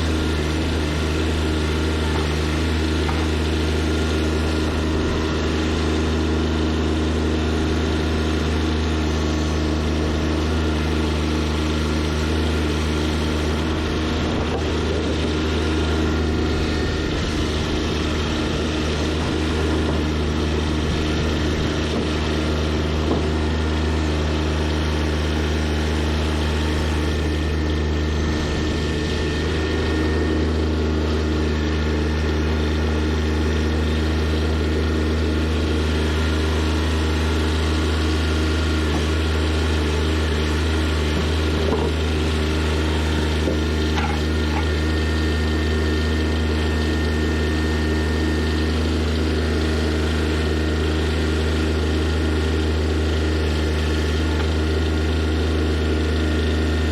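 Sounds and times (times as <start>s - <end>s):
engine humming steadily: 0.0s - 56.9s.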